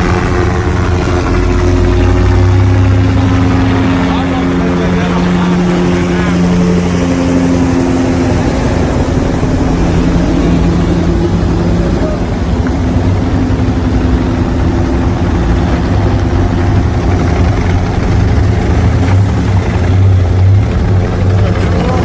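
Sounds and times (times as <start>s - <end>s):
heavy vehicle engines rumbling: 0.0s - 22.0s.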